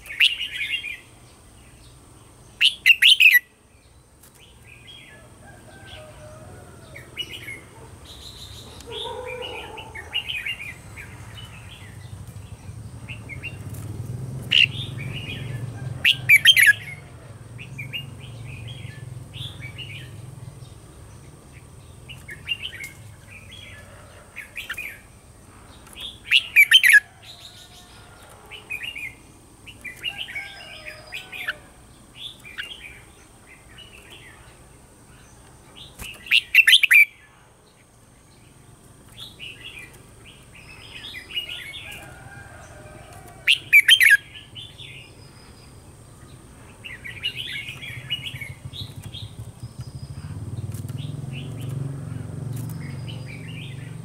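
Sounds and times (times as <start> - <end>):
bulbuls singing: 0.0 - 54.0.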